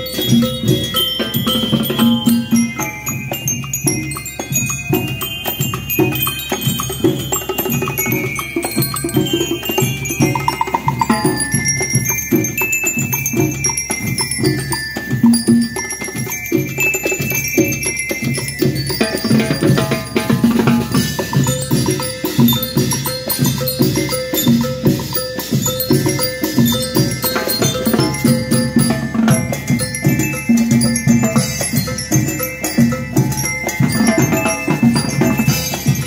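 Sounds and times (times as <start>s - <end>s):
bell lyres melody: 0.0s - 36.0s
drums beat: 0.0s - 36.0s.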